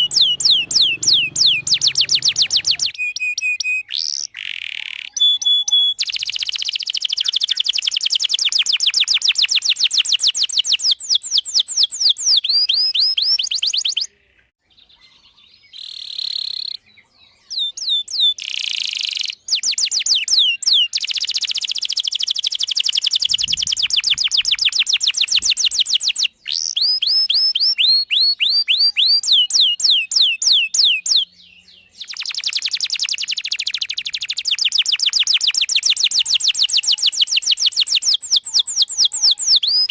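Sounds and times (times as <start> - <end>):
canary singing in rapid trills: 0.0 - 14.1, 15.7 - 39.9.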